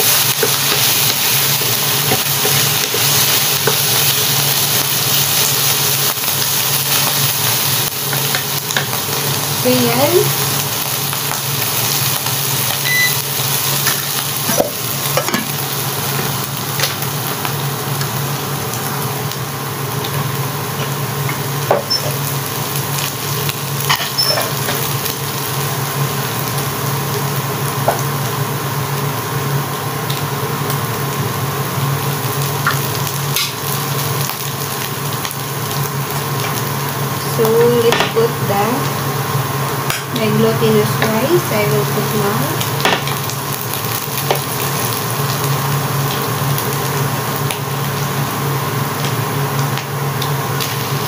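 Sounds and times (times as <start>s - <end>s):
food sizzling in a pan: 0.0s - 51.0s.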